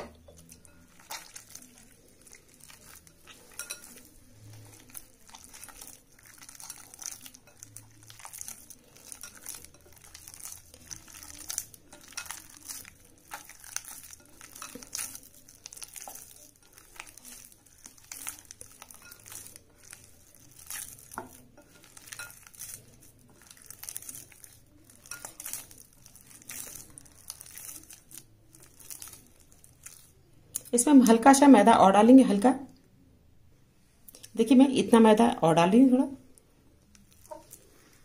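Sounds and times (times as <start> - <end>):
dough squelching by hand: 0.0 - 31.6, 34.1 - 38.0.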